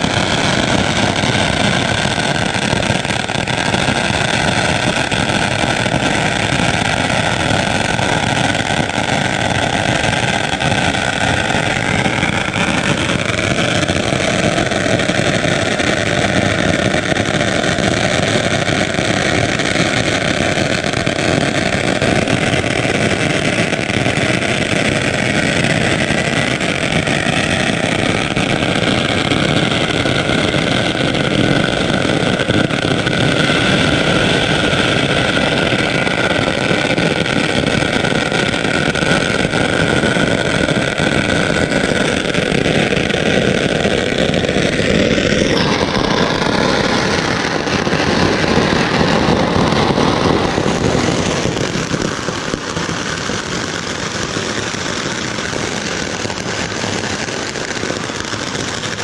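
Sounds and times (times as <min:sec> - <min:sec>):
firecracker string crackling: 0:00.0 - 0:59.0.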